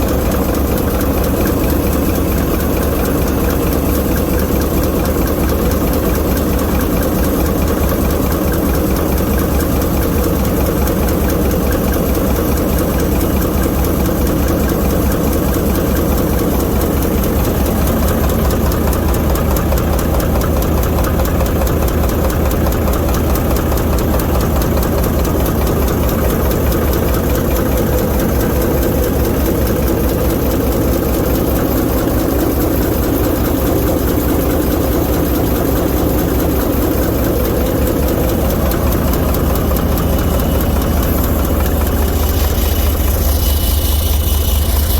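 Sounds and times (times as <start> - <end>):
diesel locomotive engine running: 0.0 - 44.9.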